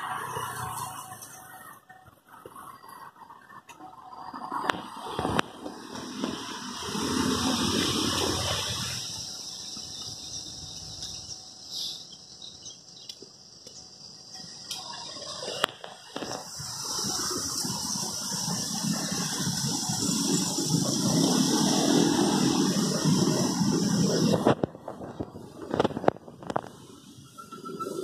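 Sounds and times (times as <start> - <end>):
road traffic rushing: 0.0 - 28.0
steady high hiss: 0.0 - 28.0.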